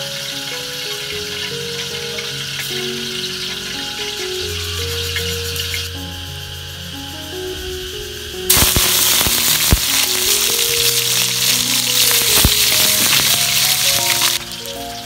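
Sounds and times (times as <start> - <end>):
fish sizzling in hot oil: 0.0 - 6.8, 8.5 - 15.0.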